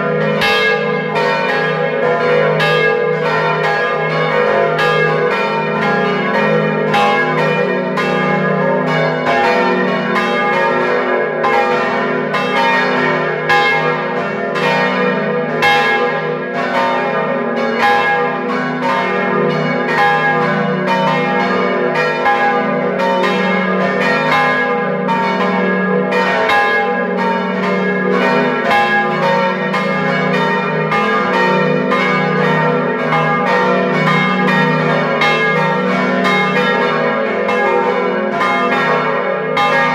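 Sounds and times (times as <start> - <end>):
church bells ringing in full peal: 0.0 - 39.9.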